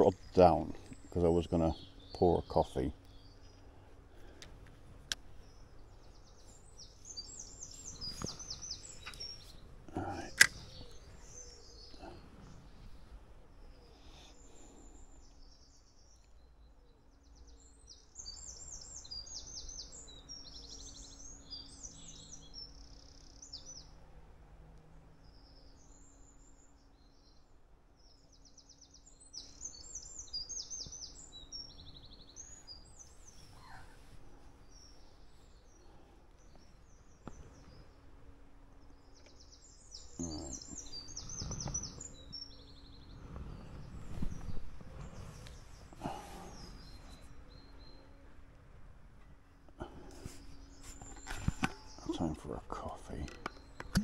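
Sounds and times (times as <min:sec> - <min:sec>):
faint steady hum: 0:00.0 - 0:54.0
songbirds chirping and trilling: 0:00.0 - 0:54.0.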